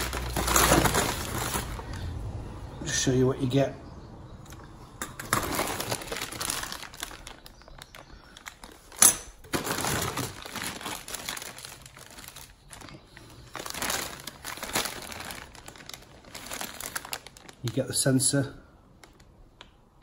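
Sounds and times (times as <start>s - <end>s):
paper and plastic bags rustling: 0.0s - 2.1s, 5.1s - 19.3s.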